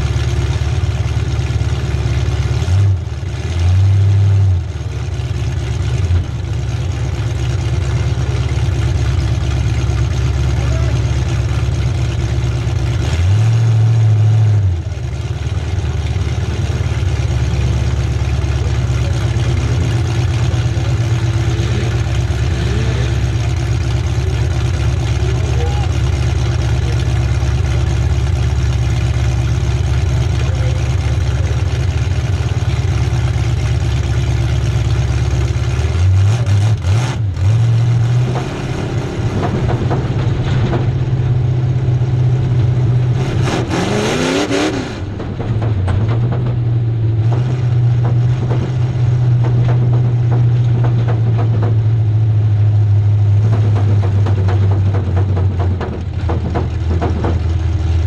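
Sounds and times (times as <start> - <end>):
car engine with open exhaust: 0.0 - 58.0.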